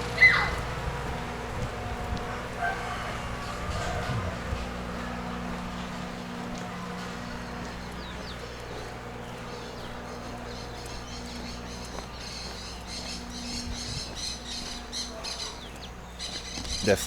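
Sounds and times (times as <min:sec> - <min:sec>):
birds chirping: 0:00.0 - 0:17.0
low engine-like hum: 0:00.0 - 0:17.0.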